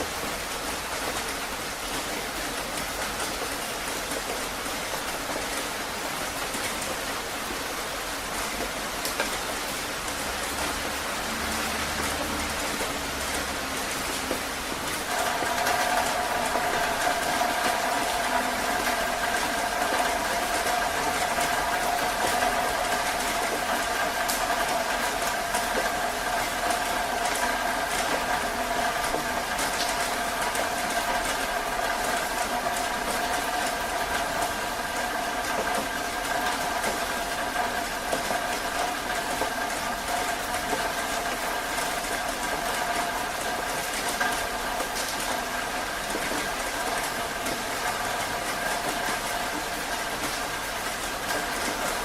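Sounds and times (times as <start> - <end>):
heavy rain hissing: 0.0 - 52.0.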